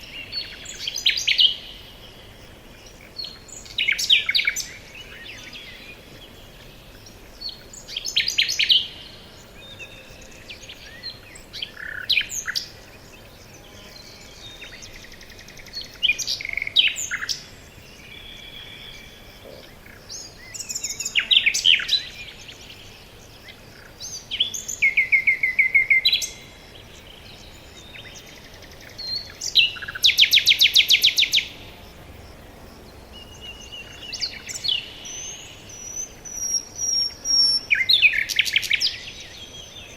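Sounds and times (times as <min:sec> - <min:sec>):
faint background hiss: 0:00.0 - 0:39.9
songbirds singing: 0:00.0 - 0:39.9.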